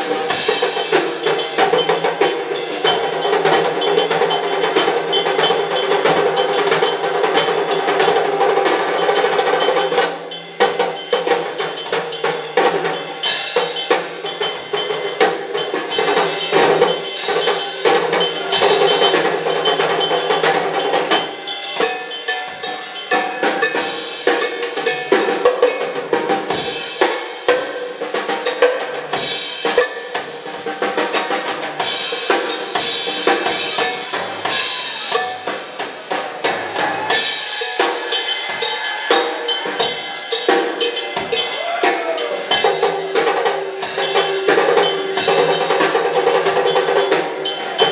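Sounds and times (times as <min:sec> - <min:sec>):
rock drum solo: 0:00.0 - 0:47.9.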